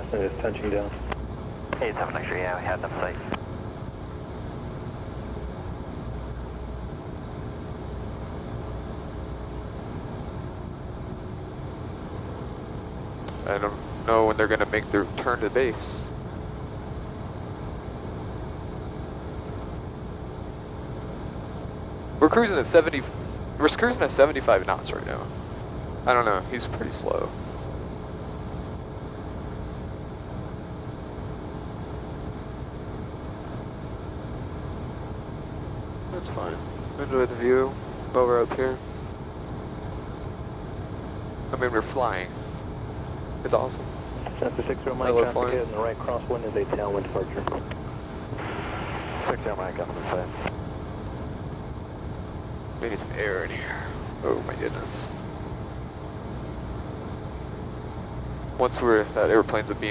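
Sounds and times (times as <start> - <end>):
low steady tones: 0.0 - 59.9
propeller plane engine droning: 0.0 - 59.9.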